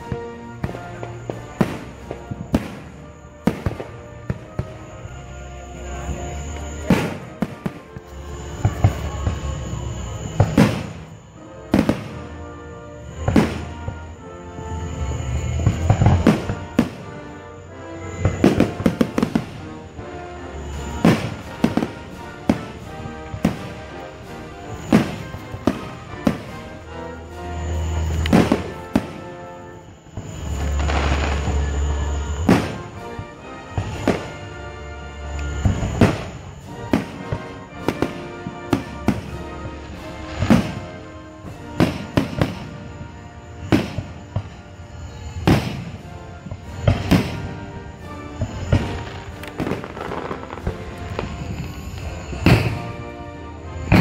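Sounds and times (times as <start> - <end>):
fireworks bangs: 0.0 - 54.0
music playing: 0.0 - 54.0.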